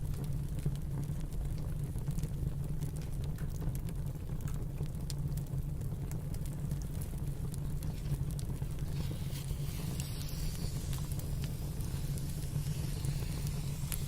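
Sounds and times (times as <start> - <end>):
fireplace crackling and popping: 0.0 - 14.0
low rumble of wind: 0.0 - 14.0
soft hiss: 0.0 - 14.0.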